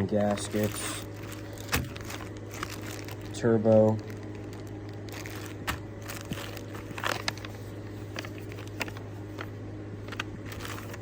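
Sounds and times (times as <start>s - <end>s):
handling clicks and rustles: 0.0s - 11.0s
steady low hum: 0.0s - 11.0s.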